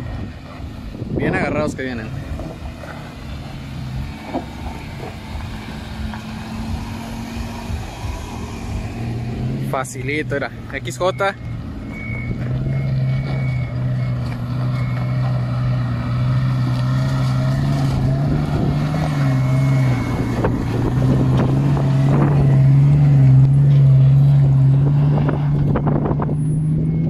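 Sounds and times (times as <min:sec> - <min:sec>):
car engine under load: 0:00.0 - 0:27.0.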